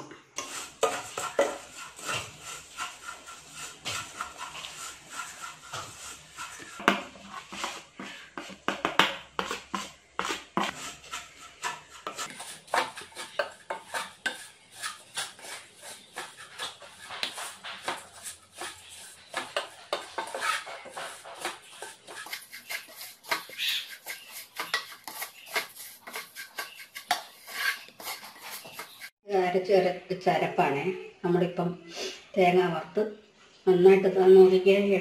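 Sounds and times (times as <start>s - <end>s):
wooden spatula scraping pot: 0.0s - 29.2s.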